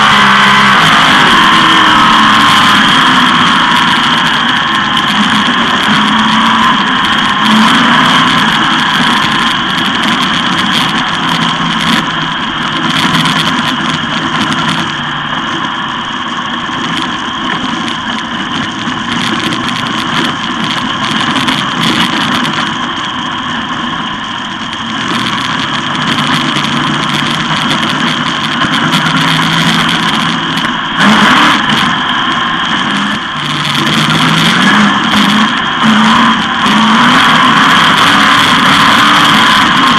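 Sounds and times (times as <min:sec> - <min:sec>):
race car engines racing: 0:00.0 - 0:39.9.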